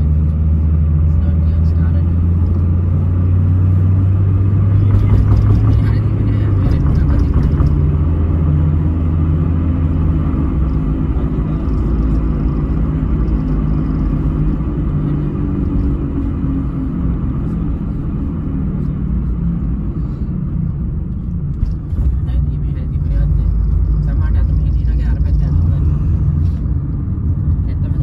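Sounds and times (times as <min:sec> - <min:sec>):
car engine and road noise inside cabin: 0:00.0 - 0:28.0.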